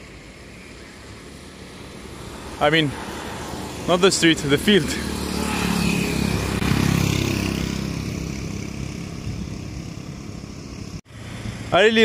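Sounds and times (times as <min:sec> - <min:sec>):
vehicle passing by: 0:00.4 - 0:12.0.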